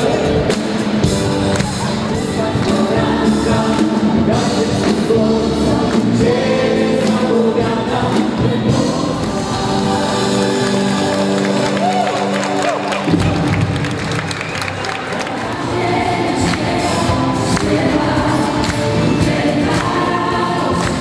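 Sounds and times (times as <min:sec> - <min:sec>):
crowd singing along: 0:00.0 - 0:11.9, 0:15.0 - 0:21.0
live band playing: 0:00.0 - 0:21.0.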